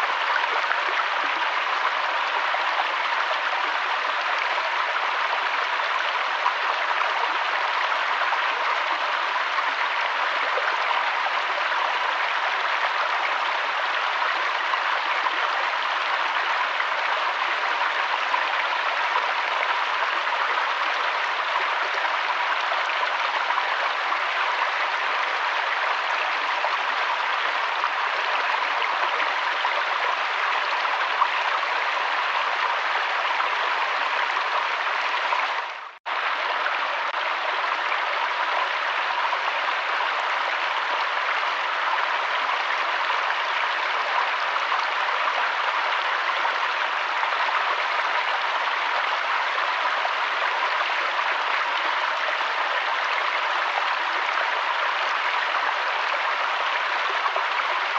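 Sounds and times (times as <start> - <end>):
river water flowing: 0.0 - 57.9.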